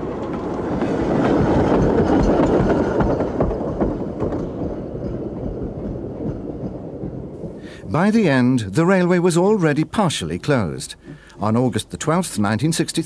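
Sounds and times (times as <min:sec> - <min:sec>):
steam train running on track: 0:00.0 - 0:13.0.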